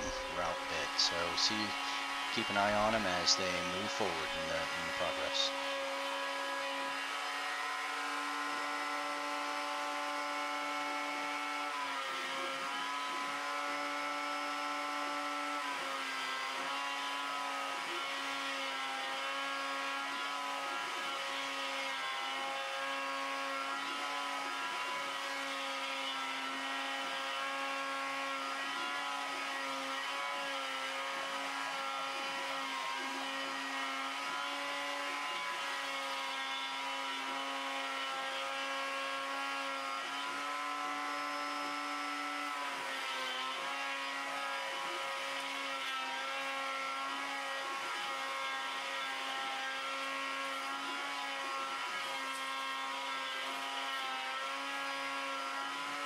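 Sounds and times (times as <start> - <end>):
router motor whining: 0.0 - 56.0.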